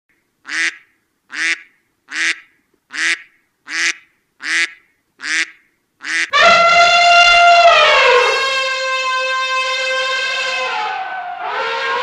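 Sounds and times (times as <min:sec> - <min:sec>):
duck quacking: 0:00.4 - 0:11.0.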